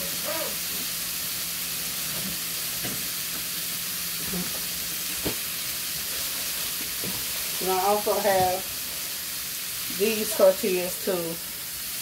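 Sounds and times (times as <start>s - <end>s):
steaks sizzling in a pan: 0.0s - 12.0s.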